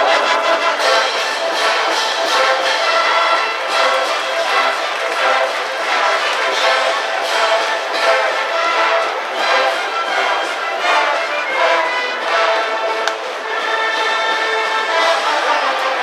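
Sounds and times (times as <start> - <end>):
brass band playing cheering tune: 0.0 - 16.0.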